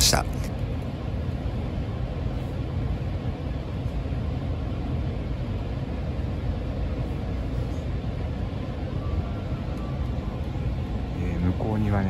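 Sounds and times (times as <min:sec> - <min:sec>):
train carriage hum and rumble: 0:00.0 - 0:12.0.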